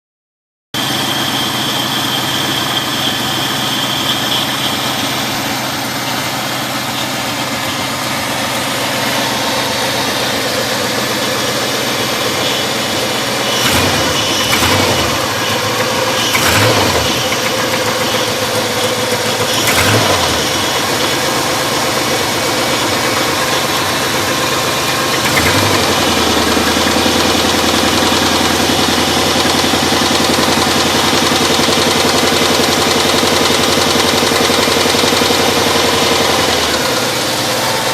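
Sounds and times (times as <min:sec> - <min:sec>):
car engine idling with knock: 0:00.8 - 0:37.9
engine throttle blips: 0:00.8 - 0:37.9.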